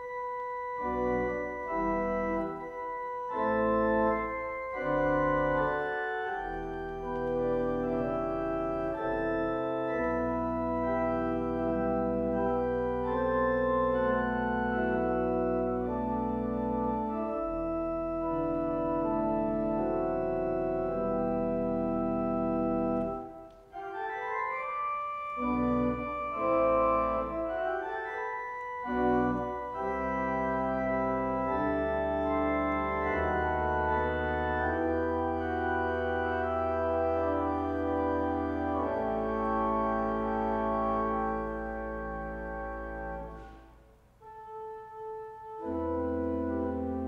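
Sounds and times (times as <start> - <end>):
organ playing sustained chords: 0.0 - 47.0.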